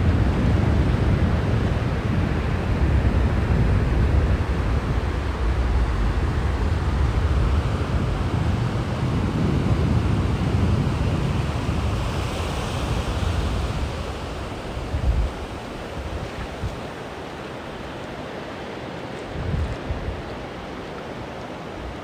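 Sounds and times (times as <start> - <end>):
wind buffeting microphone: 0.0 - 17.9, 19.1 - 22.0
surf washing onto beach: 0.0 - 22.0.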